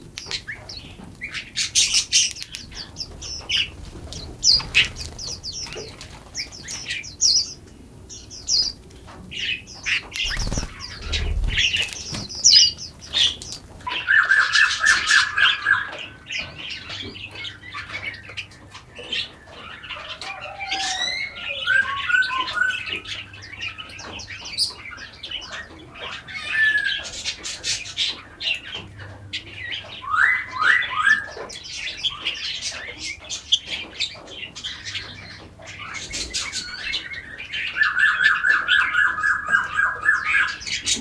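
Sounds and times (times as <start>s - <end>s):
forest birds singing: 0.0s - 41.0s.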